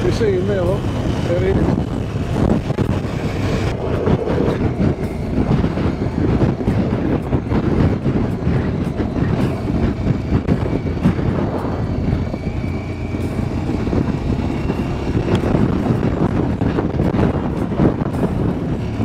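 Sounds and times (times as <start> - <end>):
motorcycle engine: 0.0 - 19.0
wind buffeting microphone: 0.0 - 19.0.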